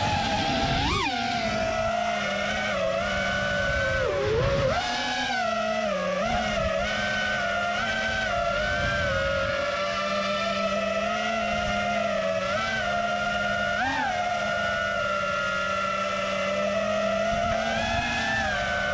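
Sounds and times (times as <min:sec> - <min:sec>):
drone motors whining: 0:00.0 - 0:18.9.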